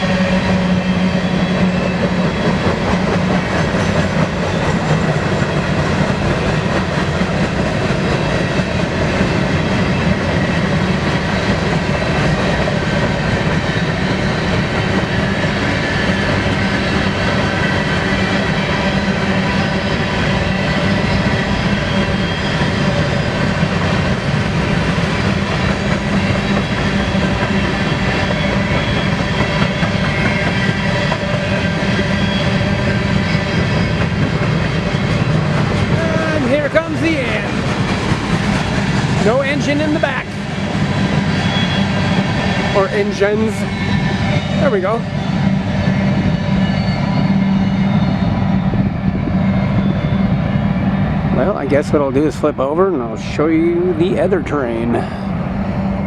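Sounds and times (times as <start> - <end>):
clickety-clack of train cars: 0.0 - 56.0
freight train wheels on rails: 0.0 - 56.0
ringing wheels and rails: 0.0 - 56.0.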